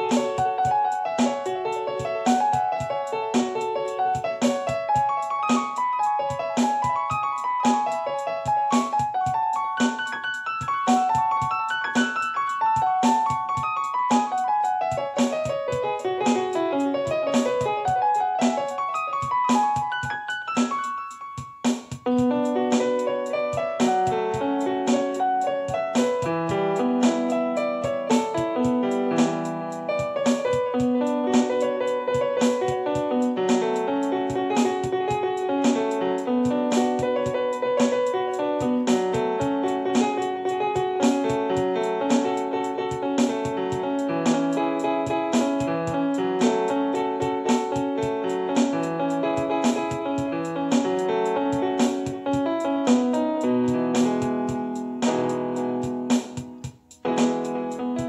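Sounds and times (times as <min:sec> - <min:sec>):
piano notes: 0:00.0 - 0:58.0
steady percussive beat: 0:00.0 - 0:58.0.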